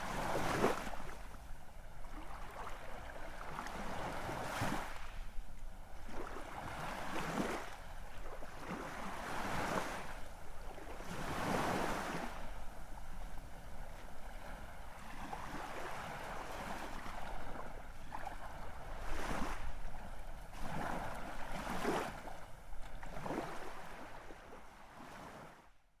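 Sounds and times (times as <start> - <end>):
sea waves breaking: 0.0 - 25.6.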